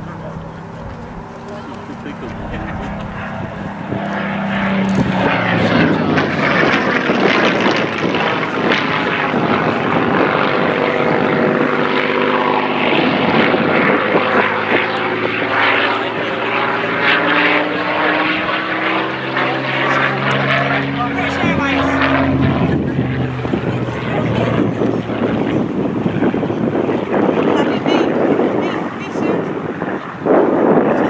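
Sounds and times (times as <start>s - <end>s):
propeller plane engine passing: 0.0s - 31.0s.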